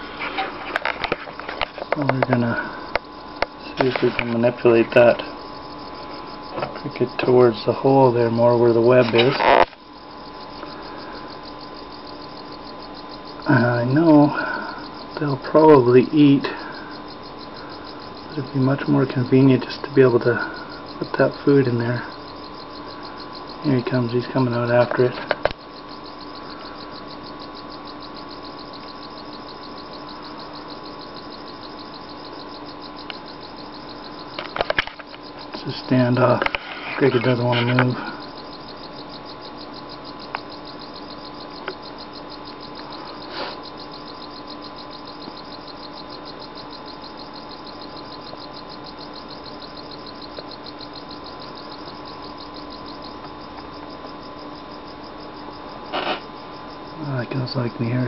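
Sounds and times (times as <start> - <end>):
cricket chirping: 0.0 - 58.0
low electrical hum: 0.0 - 58.0.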